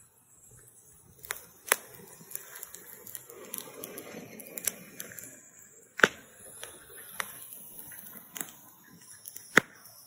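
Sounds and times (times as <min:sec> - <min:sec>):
wood fire crackling: 0:00.0 - 0:10.0
sharp pops of fire: 0:00.5 - 0:10.0.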